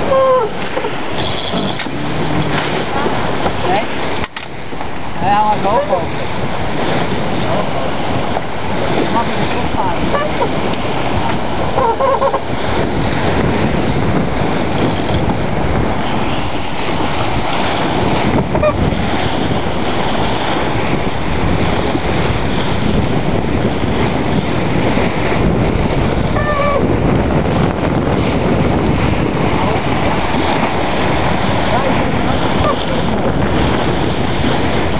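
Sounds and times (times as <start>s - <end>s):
rushing water from boat hull: 0.0s - 34.9s
wind buffeting microphone: 0.0s - 34.9s.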